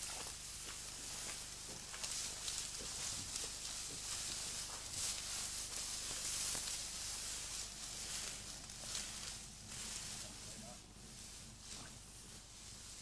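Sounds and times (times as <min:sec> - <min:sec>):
faint low hum: 0:00.0 - 0:13.0
grass swishing against clothing: 0:00.0 - 0:13.0.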